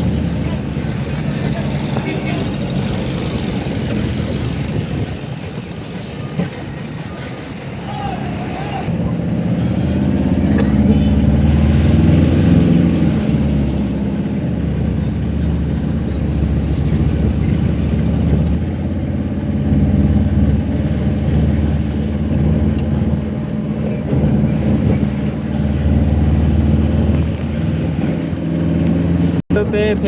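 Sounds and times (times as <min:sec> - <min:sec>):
car engine hum: 0:00.0 - 0:30.0
road noise: 0:00.0 - 0:30.0.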